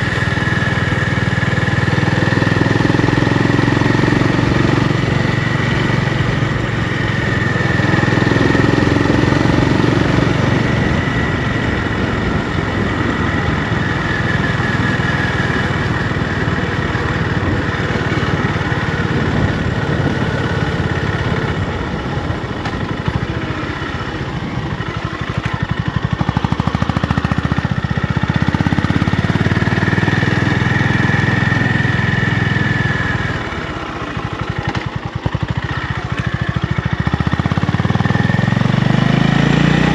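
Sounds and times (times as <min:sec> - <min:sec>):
single-cylinder motorcycle engine: 0:00.0 - 0:39.9.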